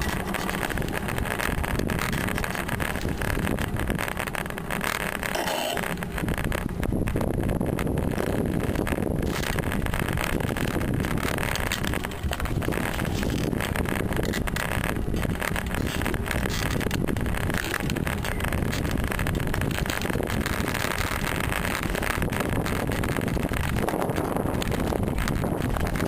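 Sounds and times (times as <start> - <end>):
bicycle ride rumble: 0.0 - 26.0
wind buffeting microphone: 0.0 - 26.0.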